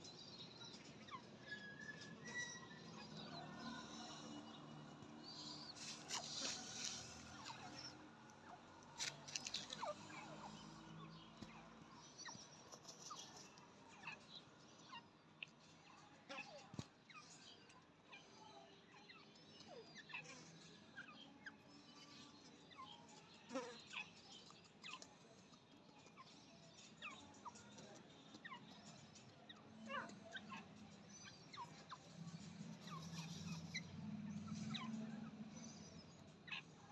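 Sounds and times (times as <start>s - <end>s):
faint bird chirps: 0.0s - 36.9s.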